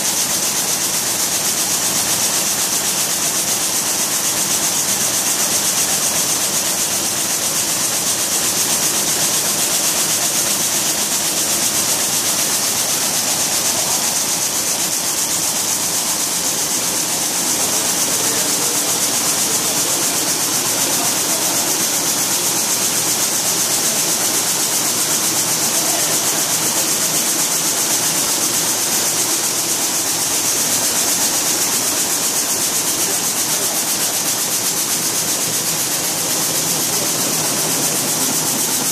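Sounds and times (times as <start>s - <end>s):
weaving looms clattering: 0.0s - 38.9s.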